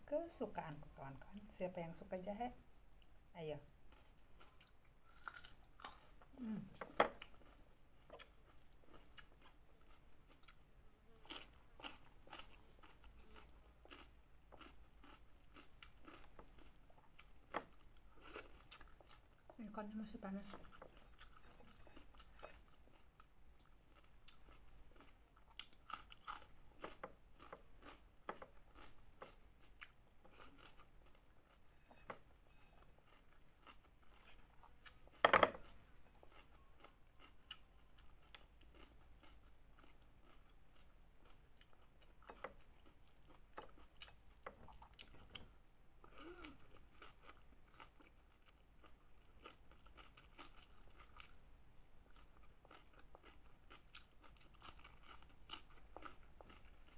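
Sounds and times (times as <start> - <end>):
person chewing and crunching food: 3.9 - 19.6, 20.3 - 56.9.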